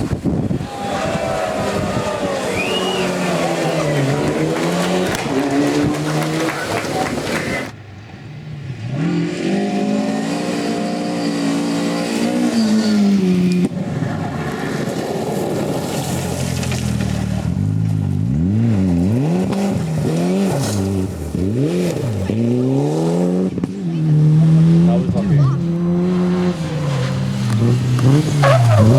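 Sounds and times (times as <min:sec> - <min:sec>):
rally car engines revving: 0:00.0 - 0:28.9.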